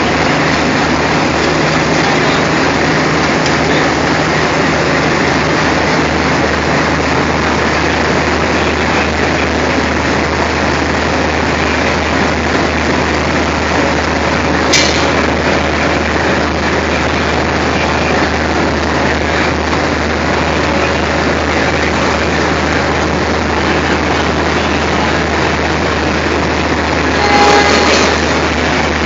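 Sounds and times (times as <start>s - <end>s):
diesel locomotive engine idling: 0.0s - 29.0s.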